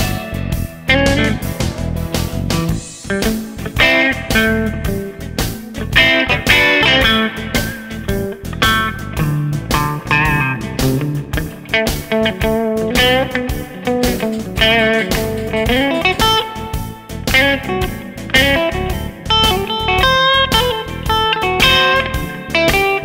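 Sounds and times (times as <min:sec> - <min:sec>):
electric guitar lead with bent notes: 0:00.0 - 0:23.0
steady beat: 0:00.0 - 0:23.0.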